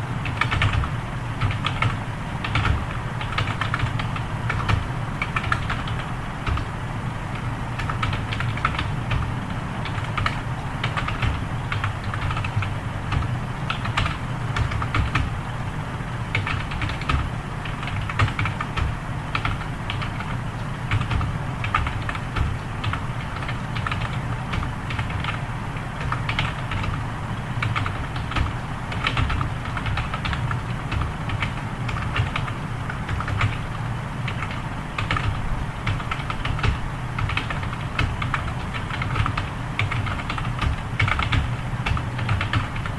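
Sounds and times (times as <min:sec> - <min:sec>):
fast typing on keyboard: 0:00.2 - 0:15.6, 0:16.3 - 0:42.9.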